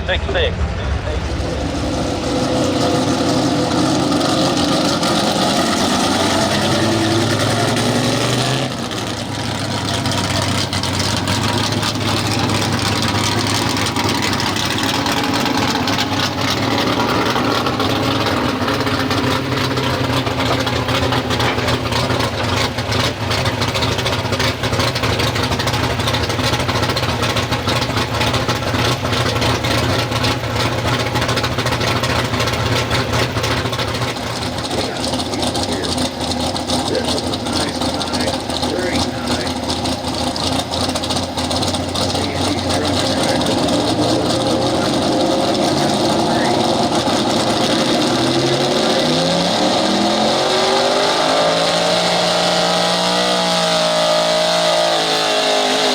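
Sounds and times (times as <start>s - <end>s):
truck engine running loud: 0.0s - 55.9s.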